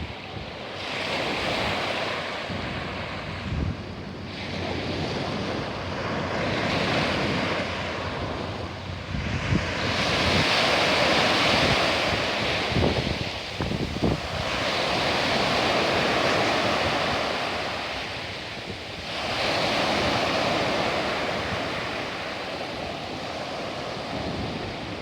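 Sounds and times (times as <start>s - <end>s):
sea waves breaking on shore: 0.0s - 25.0s
wind buffeting microphone: 0.0s - 25.0s.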